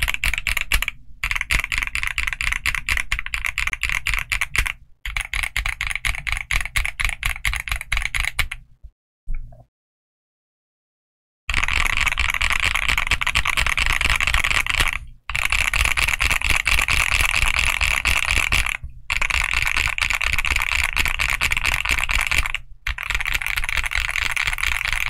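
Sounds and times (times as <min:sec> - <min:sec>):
mechanical keyboard typing: 0:00.0 - 0:08.6, 0:11.5 - 0:25.0.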